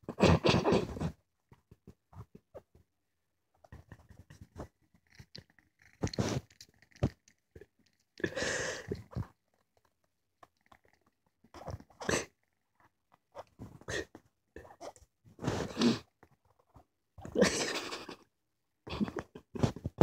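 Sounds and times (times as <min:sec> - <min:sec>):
kitten chewing and snuffling: 0:00.1 - 0:18.3, 0:18.9 - 0:20.0.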